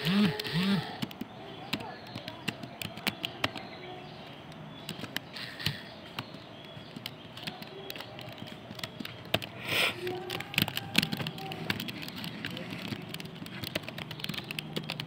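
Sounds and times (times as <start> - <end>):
laptop keyboard typing: 0.0 - 15.0.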